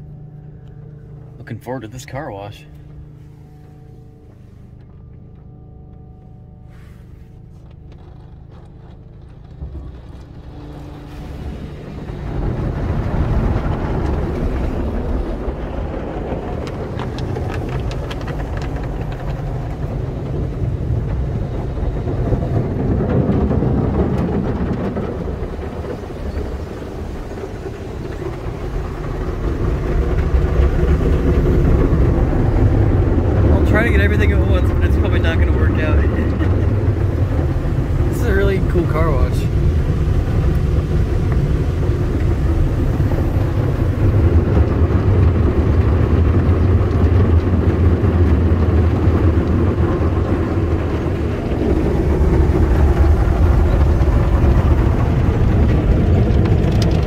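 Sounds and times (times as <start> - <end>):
low hum: 0.0 - 57.0
car wash brushes and spray: 6.6 - 57.0.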